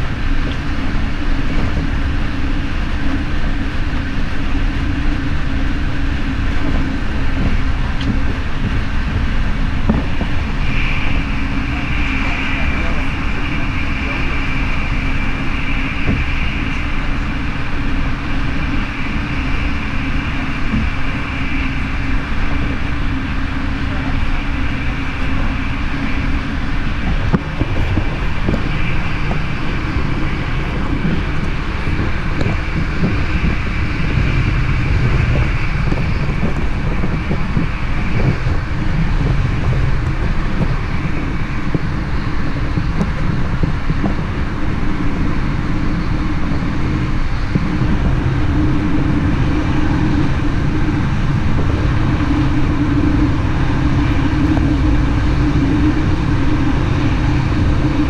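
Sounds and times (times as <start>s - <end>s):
high whine: 0.0s - 58.0s
train wheels rumbling on rails: 0.0s - 58.0s.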